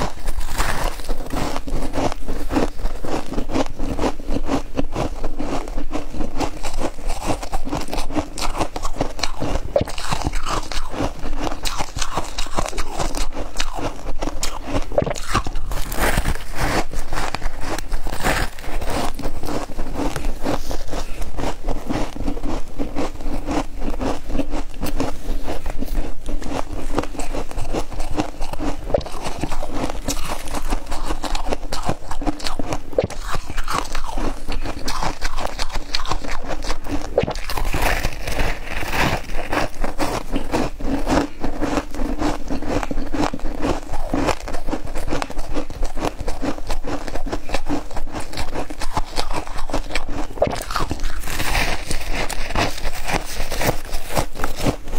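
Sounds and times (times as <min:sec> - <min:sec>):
frost crunching as chewed: 0:00.0 - 0:54.9.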